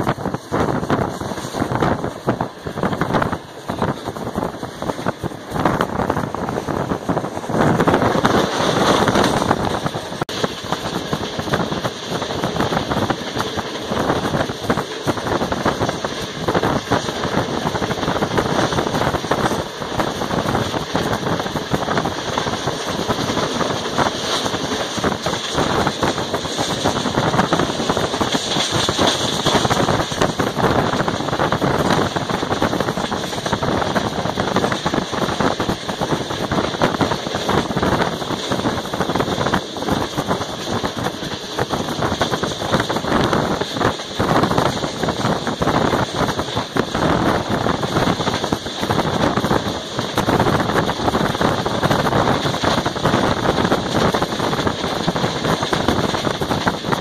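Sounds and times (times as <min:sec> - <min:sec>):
train wheels rattling on rails: 0:00.0 - 0:57.0
wind rushing past window: 0:00.0 - 0:57.0.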